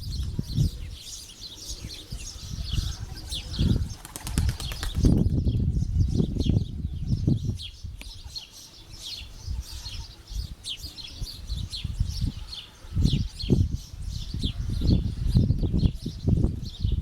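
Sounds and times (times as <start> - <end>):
small birds chirping: 0.0 - 17.0
wind rumbling on microphone: 0.0 - 17.0.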